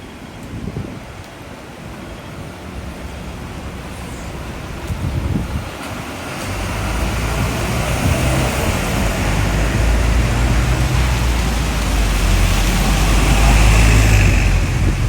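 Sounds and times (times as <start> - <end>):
wind buffeting microphone: 0.3 - 1.8, 2.8 - 15.0.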